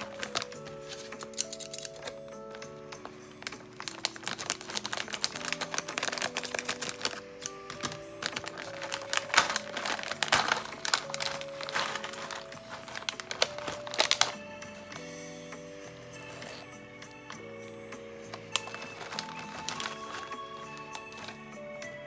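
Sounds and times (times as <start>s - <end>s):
plastic bag crinkling: 0.0s - 14.9s, 16.2s - 16.7s, 18.2s - 21.5s
background music: 0.0s - 22.0s.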